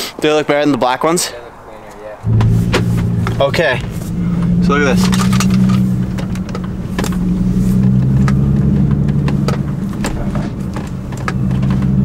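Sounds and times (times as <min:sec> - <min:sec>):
car engine drone inside cabin: 0:02.2 - 0:12.0.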